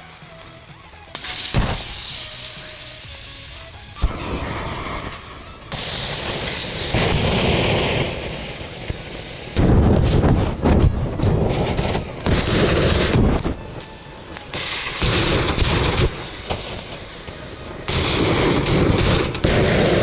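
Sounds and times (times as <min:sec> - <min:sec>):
loud hiss of venting gas: 0:01.1 - 0:20.0
lighters popping: 0:01.2 - 0:20.0.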